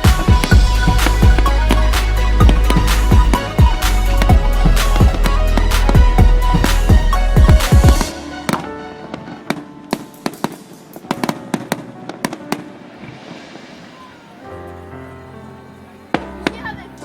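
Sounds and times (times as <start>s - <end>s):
fireworks booming and crackling: 0.0s - 14.1s
music playing: 0.0s - 17.0s.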